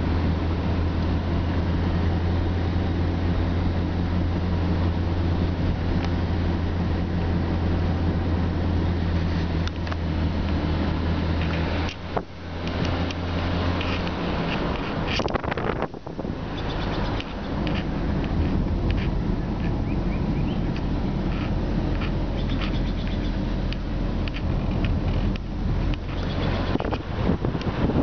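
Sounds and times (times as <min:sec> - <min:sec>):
car engine drone: 0:00.0 - 0:28.0
road and tyre noise: 0:00.0 - 0:28.0.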